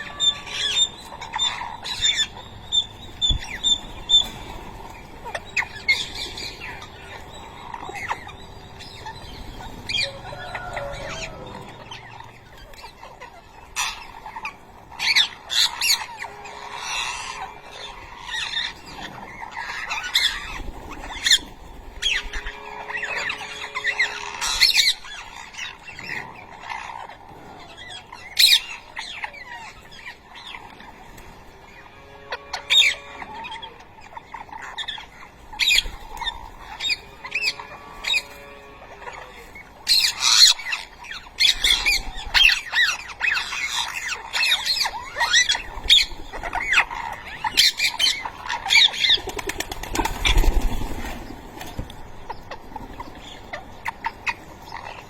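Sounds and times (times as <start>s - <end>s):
parakeets squawking and chirping: 0.0s - 55.0s.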